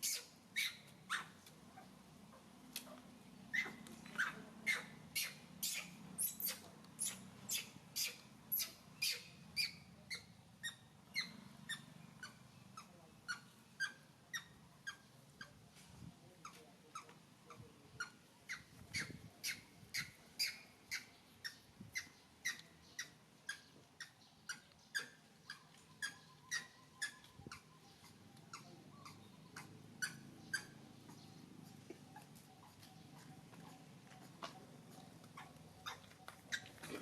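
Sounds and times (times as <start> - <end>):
small animal squeaking: 0.0 - 37.0.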